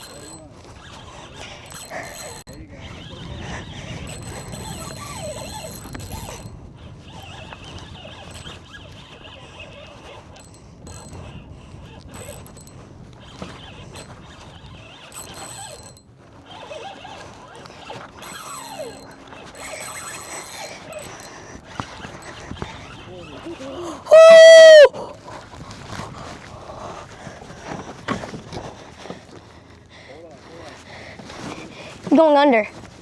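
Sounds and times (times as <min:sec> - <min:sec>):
fishing reel drag clicking: 0:00.0 - 0:26.4.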